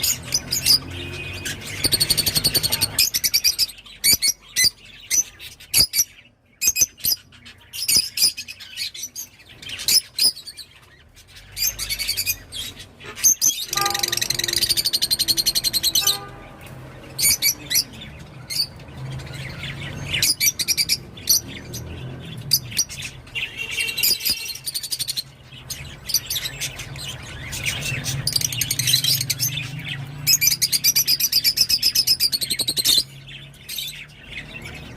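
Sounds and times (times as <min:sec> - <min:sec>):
lovebirds chirping and chattering: 0:00.0 - 0:34.9.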